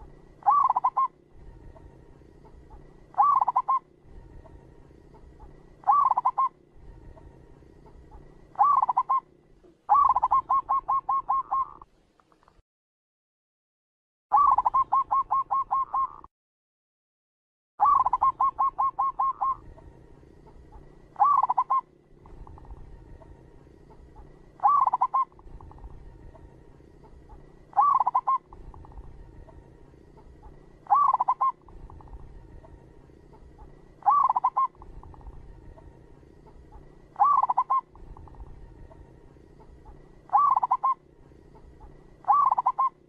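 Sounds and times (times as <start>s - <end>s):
dove cooing: 0.0s - 11.8s, 14.3s - 16.3s, 17.8s - 43.0s.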